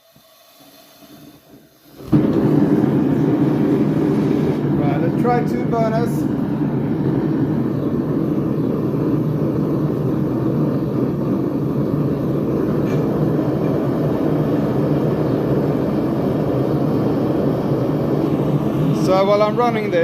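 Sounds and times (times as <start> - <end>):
gas burners rushing: 0.0 - 20.0.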